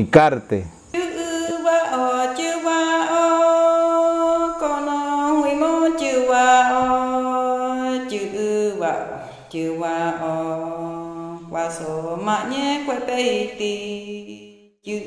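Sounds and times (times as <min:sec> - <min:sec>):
person singing slow chant: 0:01.0 - 0:15.0.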